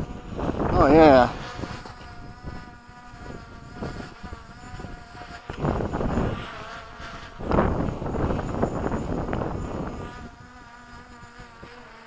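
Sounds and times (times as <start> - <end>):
wind gusts on microphone: 0.0 - 11.8
drone propellers buzzing: 0.0 - 12.0.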